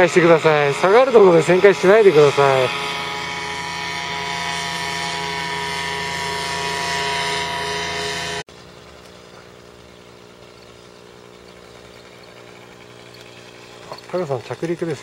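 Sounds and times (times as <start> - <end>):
paramotor engine drone: 0.0 - 15.0.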